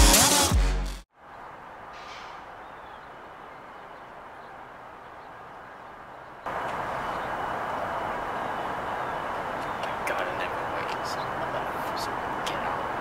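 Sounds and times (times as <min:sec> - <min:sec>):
outdoor background noise: 0:01.1 - 0:13.0.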